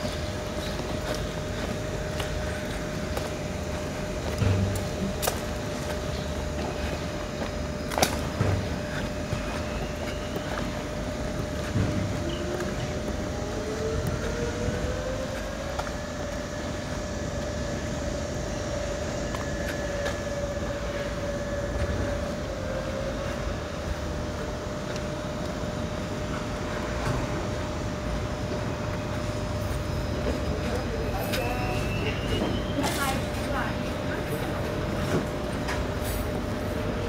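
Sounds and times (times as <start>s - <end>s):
vehicle whine: 0.0s - 37.0s.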